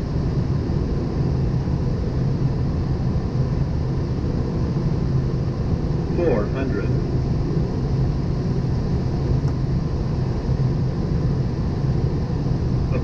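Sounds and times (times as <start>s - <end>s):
airflow and engine rumble: 0.0s - 13.0s
constant hum: 0.0s - 13.0s.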